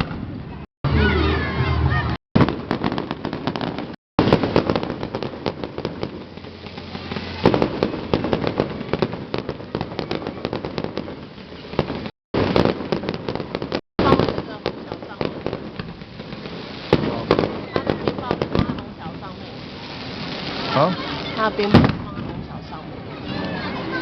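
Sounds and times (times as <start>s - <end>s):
fireworks booms: 0.0s - 24.0s
fireworks crackling: 2.0s - 24.0s.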